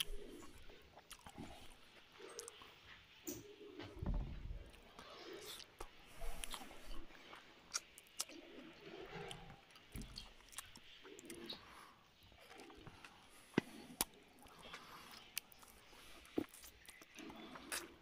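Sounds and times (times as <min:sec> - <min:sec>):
mouth clicks and smacks: 0:00.0 - 0:02.7, 0:05.0 - 0:11.6, 0:12.4 - 0:18.0
person chewing food: 0:00.0 - 0:02.9, 0:04.9 - 0:18.0
wet mouth noises: 0:00.0 - 0:03.4, 0:05.0 - 0:18.0.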